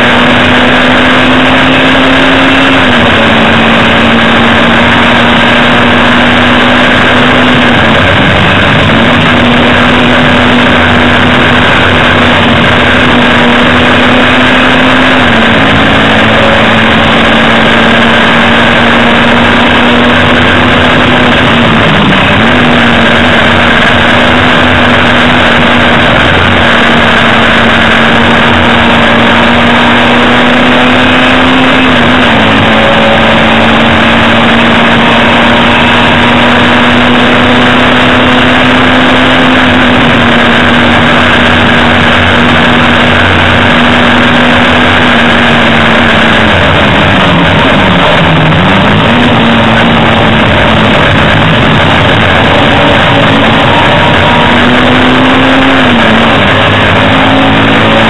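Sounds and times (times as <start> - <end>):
racing car engine running hard: 0.0 - 58.0.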